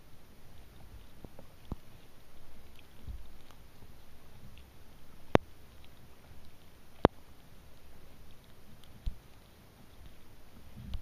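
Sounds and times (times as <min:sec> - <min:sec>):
low rumble of water: 0:00.0 - 0:11.0.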